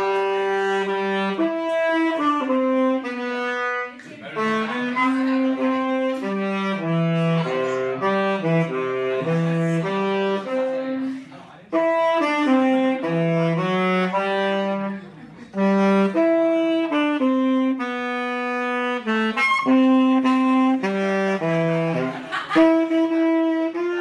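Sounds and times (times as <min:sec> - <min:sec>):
tenor saxophone slow melody: 0:00.0 - 0:24.0.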